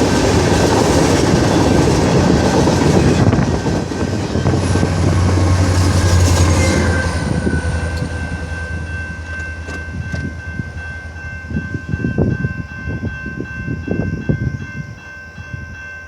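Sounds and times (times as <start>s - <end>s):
train wheels rumbling and knocking: 0.0s - 14.9s.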